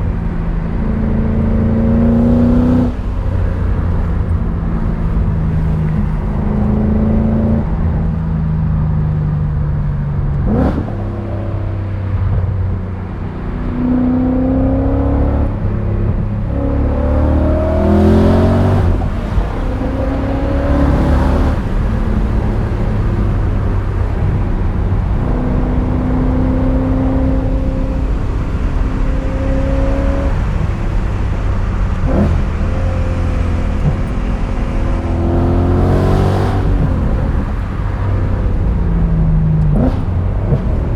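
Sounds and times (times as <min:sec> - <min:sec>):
car engine revving hard: 0:00.0 - 0:08.2, 0:10.4 - 0:40.9.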